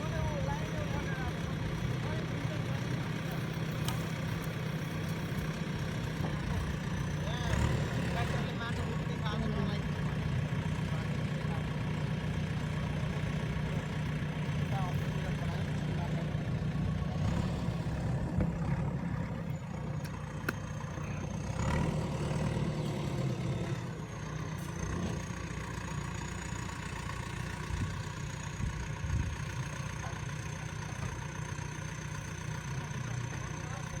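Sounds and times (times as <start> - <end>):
diesel engine running at low revs: 0.0 - 34.0.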